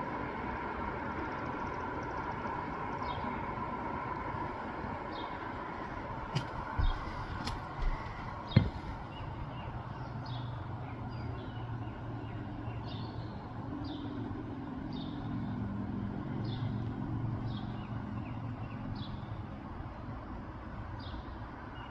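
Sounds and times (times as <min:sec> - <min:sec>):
distant traffic rumble: 0:00.0 - 0:19.9.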